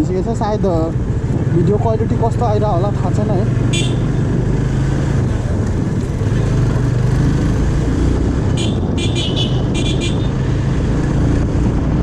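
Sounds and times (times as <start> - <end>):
road noise: 0.0 - 12.0
motorcycle engine running: 0.2 - 12.0.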